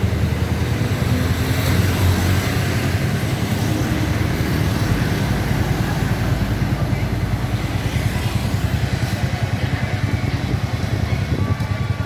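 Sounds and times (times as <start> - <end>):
motorbike and street traffic: 0.0 - 12.0.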